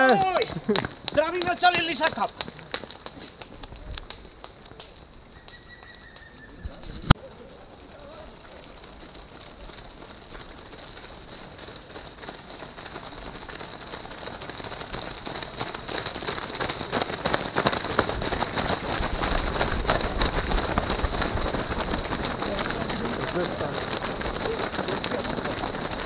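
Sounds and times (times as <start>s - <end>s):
runners' footsteps on paved road: 0.0s - 26.0s.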